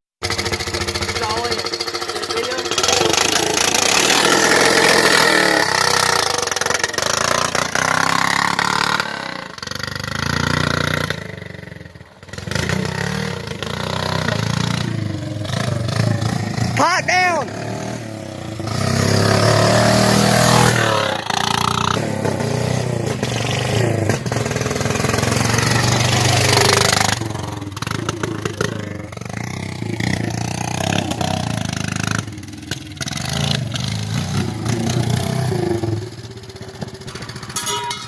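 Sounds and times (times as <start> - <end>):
atv engine revving without muffler: 0.2 - 37.7.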